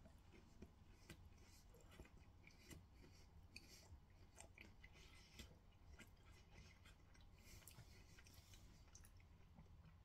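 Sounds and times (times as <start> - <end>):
chewing with crunches: 0.0 - 10.0
low room hum: 0.0 - 10.0.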